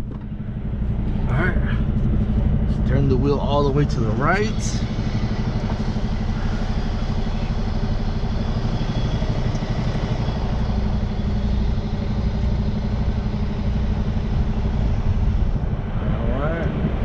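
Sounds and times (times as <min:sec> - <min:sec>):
diesel truck engine idling low: 0:00.0 - 0:17.0.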